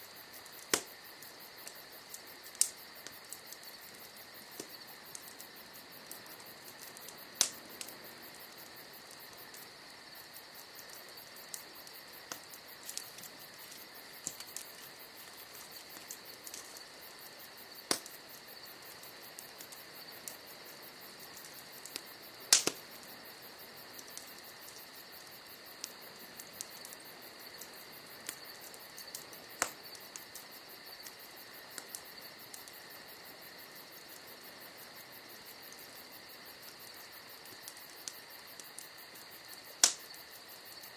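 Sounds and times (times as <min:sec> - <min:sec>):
campfire crackling: 0:00.0 - 0:40.9
crickets chirring: 0:00.0 - 0:40.9
sharp pops from burning logs: 0:00.0 - 0:40.9.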